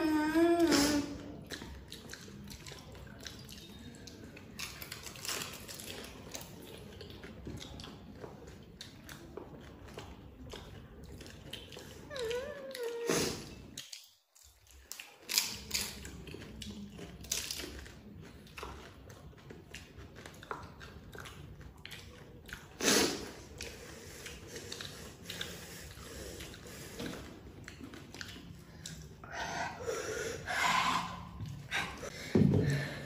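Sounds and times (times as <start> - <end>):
people biting and chewing food: 0.0 - 33.0.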